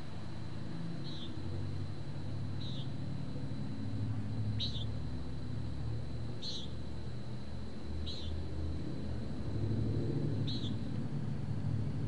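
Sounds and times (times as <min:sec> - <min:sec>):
low hum of traffic: 0:00.0 - 0:12.0.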